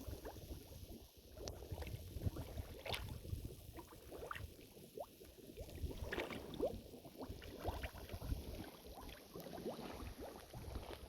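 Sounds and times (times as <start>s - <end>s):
mud bubbling and gurgling: 0.0s - 11.0s.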